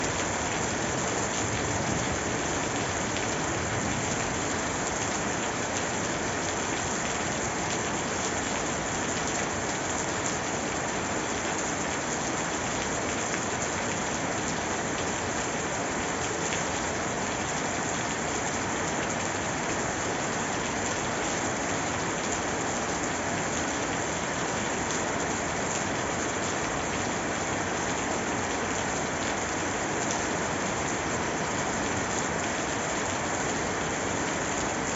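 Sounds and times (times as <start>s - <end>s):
heavy rainfall: 0.0s - 34.9s.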